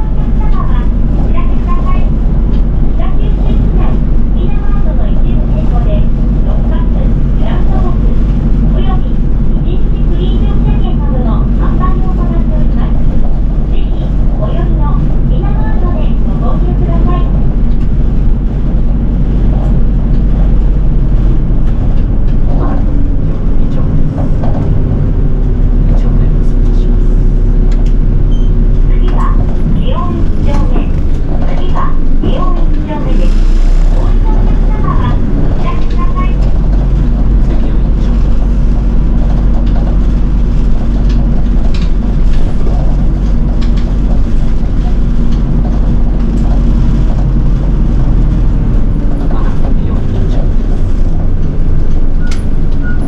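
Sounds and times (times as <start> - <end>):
bus diesel engine drone: 0.0 - 53.0.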